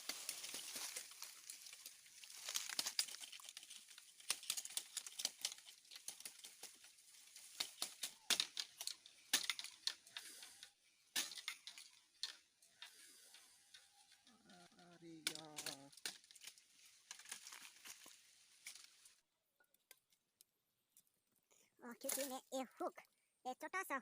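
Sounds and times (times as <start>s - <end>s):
dry bamboo and leaves rustling: 0.0s - 19.2s, 22.0s - 22.4s
bamboo stems cracking and snapping: 0.0s - 21.2s, 22.0s - 22.3s.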